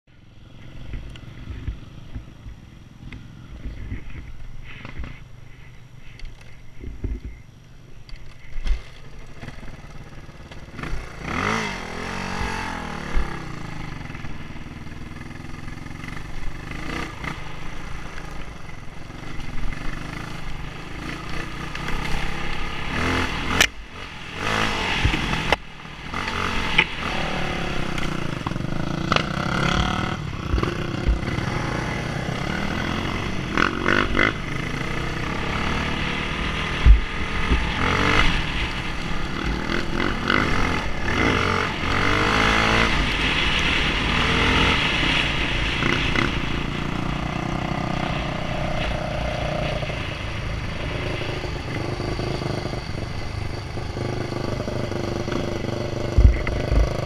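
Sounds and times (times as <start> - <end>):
dirt bike engine revving: 9.3 - 57.0.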